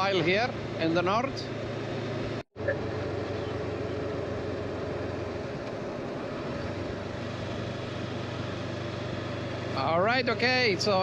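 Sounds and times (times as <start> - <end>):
motorcycle engine humming: 0.0 - 11.0
wind and road noise: 0.0 - 11.0.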